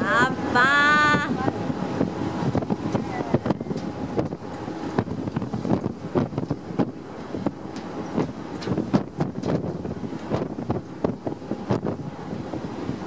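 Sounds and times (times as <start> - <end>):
sea: 0.0 - 13.0
ship running noise: 0.0 - 13.0
wind buffeting the microphone: 0.0 - 13.0.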